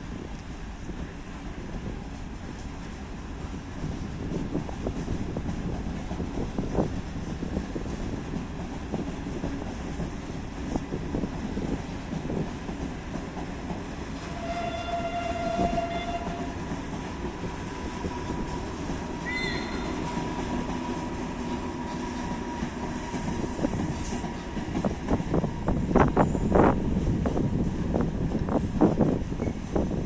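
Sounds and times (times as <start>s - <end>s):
freight train wagons rumbling: 0.0s - 30.0s.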